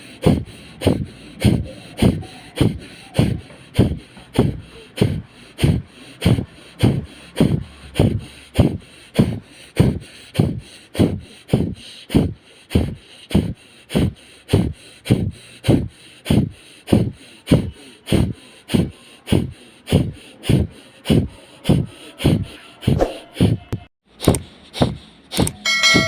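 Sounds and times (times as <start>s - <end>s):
forceful nasal exhalations: 0.0s - 25.6s.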